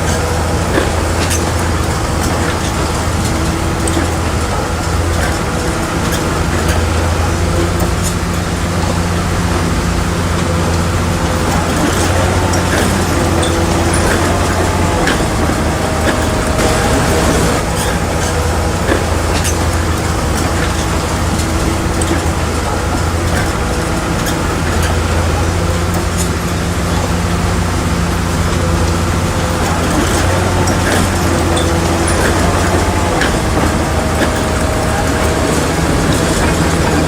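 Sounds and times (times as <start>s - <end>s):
bulldozer engine running under load: 0.0s - 37.0s
metallic clanks: 0.0s - 37.0s.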